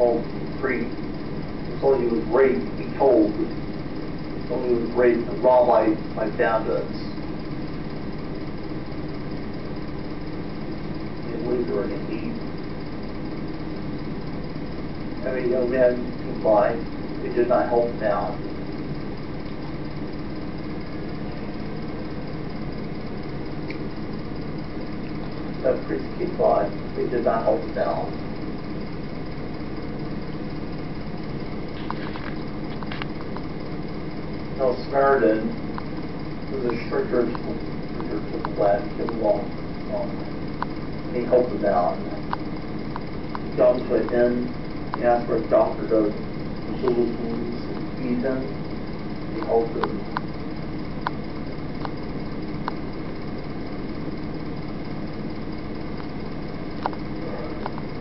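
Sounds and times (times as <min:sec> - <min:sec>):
low hum with hiss: 0:00.0 - 0:58.0.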